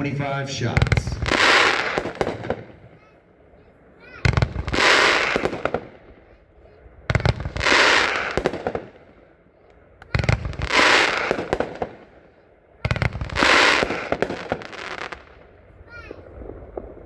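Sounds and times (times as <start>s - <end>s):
firework shots with crackling: 0.0s - 3.2s, 4.0s - 17.0s.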